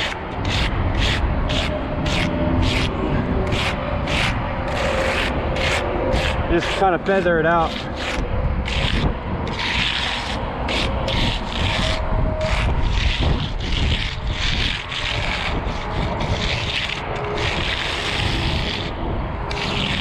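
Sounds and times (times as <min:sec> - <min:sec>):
hand float scraping wet concrete: 0:00.0 - 0:20.0.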